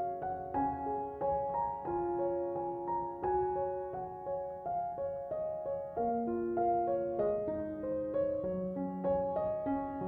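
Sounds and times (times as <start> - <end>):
calm piano music: 0.0 - 10.0.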